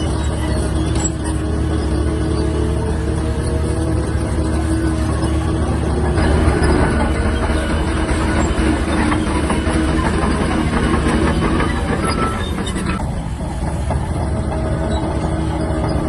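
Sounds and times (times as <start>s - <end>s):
diesel engine running: 0.0s - 16.0s
steel tracks clattering: 0.0s - 16.0s.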